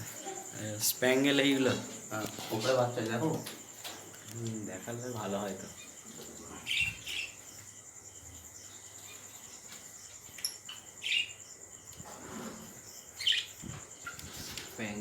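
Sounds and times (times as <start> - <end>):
cage birds chirping: 0.0 - 15.0.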